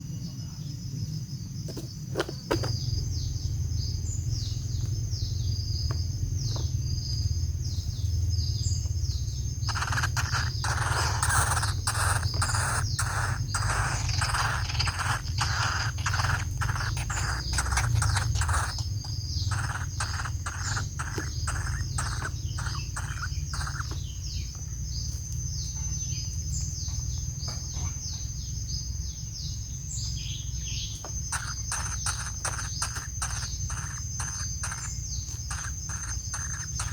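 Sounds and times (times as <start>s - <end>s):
birds chirping: 0.0s - 36.9s
high insect drone: 0.0s - 36.9s
low steady rumble: 0.0s - 36.9s
harsh rhythmic bird notes: 2.7s - 27.6s, 28.4s - 36.9s.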